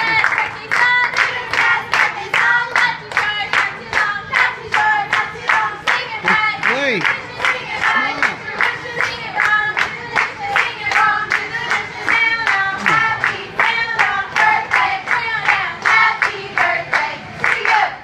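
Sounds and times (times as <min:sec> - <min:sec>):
rhythmic clapping: 0:00.0 - 0:18.0
women singing together: 0:00.0 - 0:18.0.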